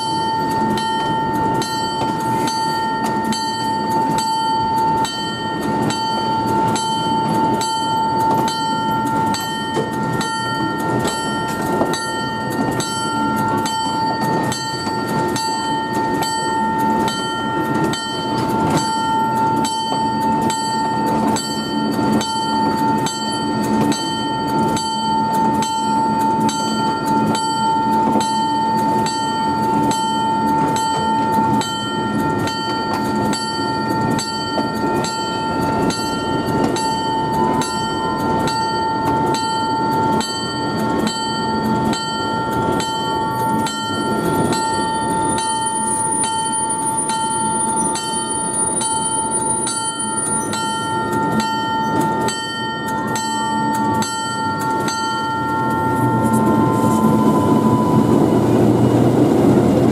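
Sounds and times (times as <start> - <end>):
bell ringing: 0.0 - 59.9
train rumble: 0.0 - 59.9.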